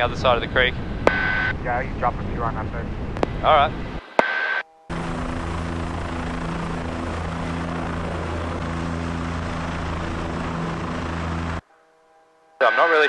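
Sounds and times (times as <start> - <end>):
helicopter rotor and turbine drone: 0.0 - 11.6.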